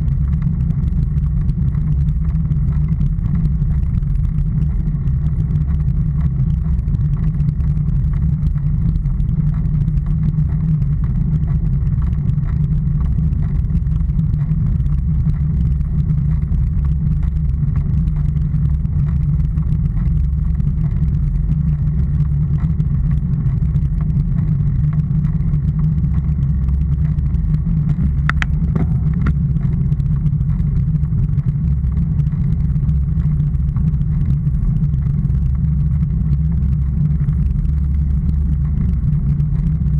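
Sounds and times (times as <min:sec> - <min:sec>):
low road rumble: 0:00.0 - 0:39.9.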